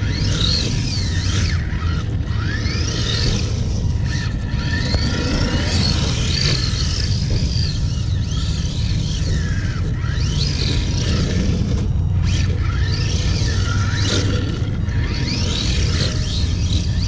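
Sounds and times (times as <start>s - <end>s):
electric motor whining: 0.0s - 17.0s
steady low rumble: 0.0s - 17.0s.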